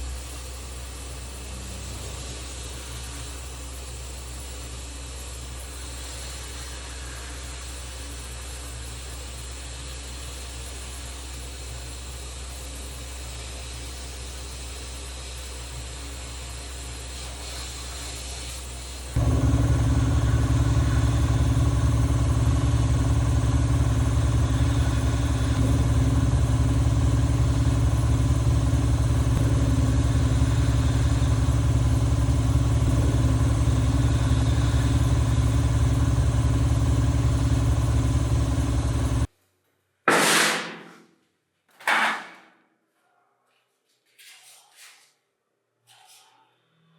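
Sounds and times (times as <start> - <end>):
machine hum: 0.0 - 39.3.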